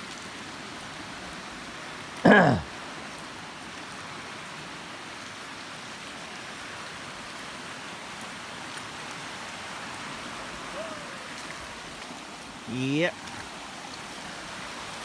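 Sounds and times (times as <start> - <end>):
rain falling on forest: 0.0 - 15.0.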